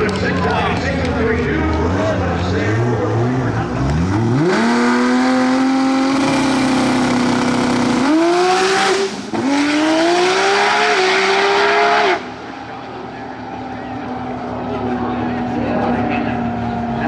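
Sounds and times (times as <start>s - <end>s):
drag racing car engine revving: 0.7s - 17.0s.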